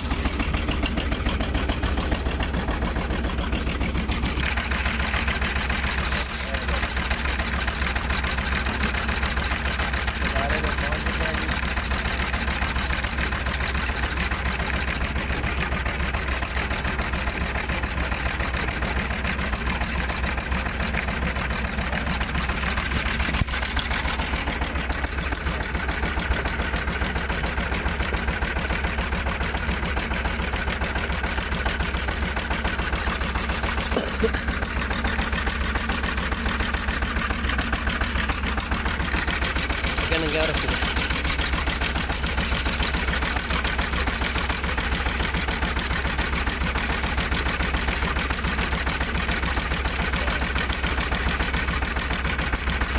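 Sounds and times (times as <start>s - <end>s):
engine chugging: 0.0s - 52.9s.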